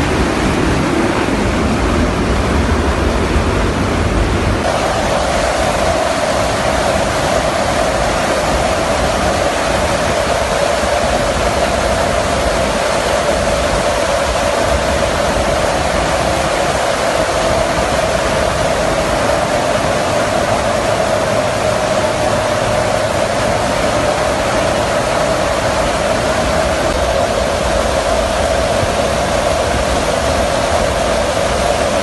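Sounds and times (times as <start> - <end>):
aeroplane drone: 0.0 - 32.0.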